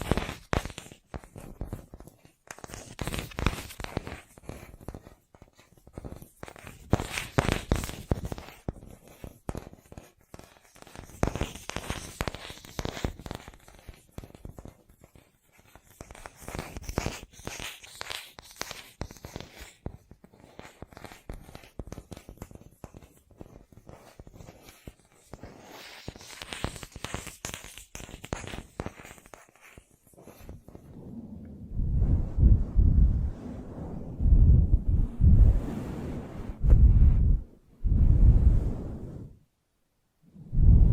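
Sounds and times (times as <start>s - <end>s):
light scratching: 0.0s - 37.5s.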